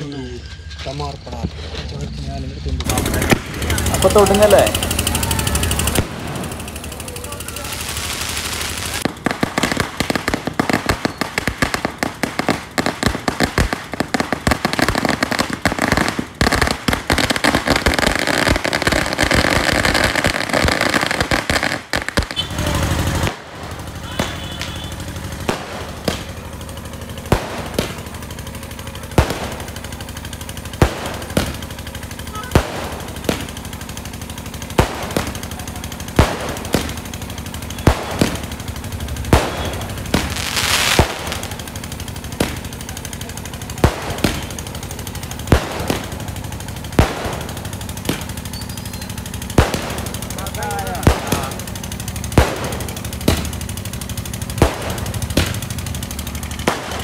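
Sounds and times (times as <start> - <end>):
firecrackers crackling: 0.0 - 57.0
firework shells cracking: 2.8 - 57.0.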